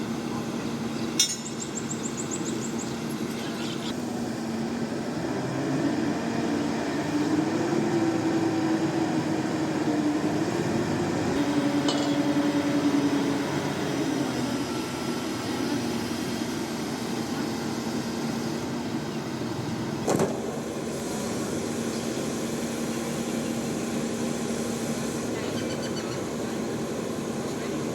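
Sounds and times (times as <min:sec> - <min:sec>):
heavy machine engine running: 0:00.0 - 0:27.9.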